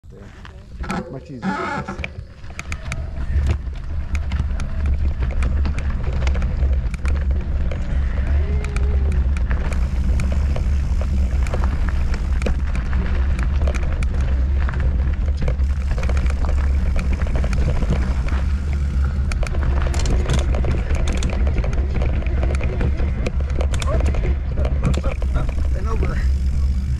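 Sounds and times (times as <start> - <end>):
bike tyres rattling on trail: 0.1 - 26.9.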